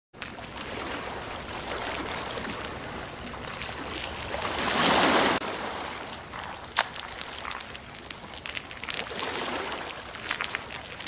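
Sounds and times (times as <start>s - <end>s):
water splashing and running: 0.2s - 11.0s.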